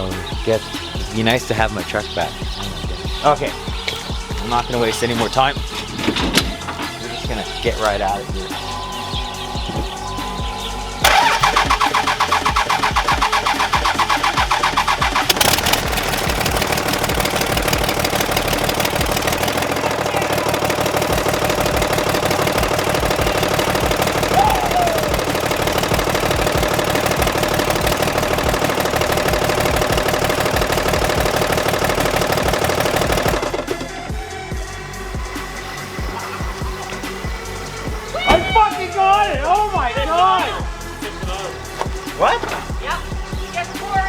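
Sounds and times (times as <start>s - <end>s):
diesel engine cranking: 0.0s - 44.0s
diesel engine running: 0.0s - 44.0s.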